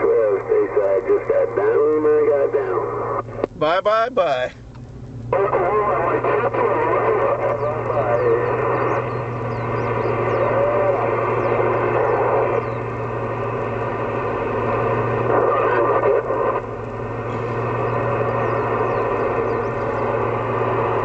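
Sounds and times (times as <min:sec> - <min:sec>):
radio static hiss: 0:00.0 - 0:04.6, 0:05.3 - 0:21.0
steady low hum: 0:00.0 - 0:21.0.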